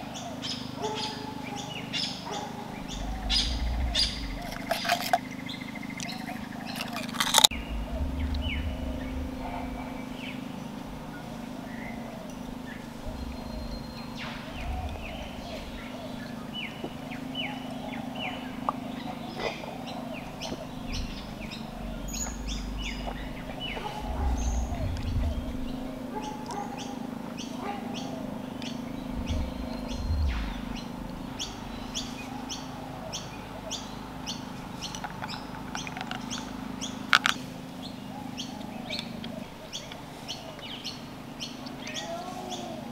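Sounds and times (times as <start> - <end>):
steady low hum: 0.0 - 42.1
small birds chirping: 0.0 - 42.9.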